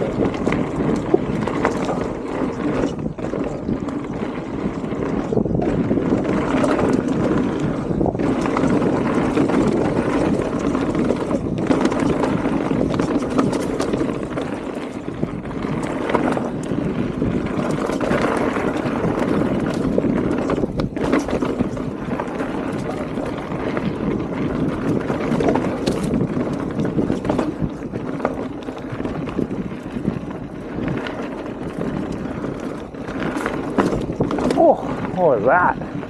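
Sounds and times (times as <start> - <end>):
bike knocking and rattling: 0.0 - 36.0
bike tyres rumbling on dirt: 0.0 - 36.0
wind buffeting microphone: 0.0 - 36.0.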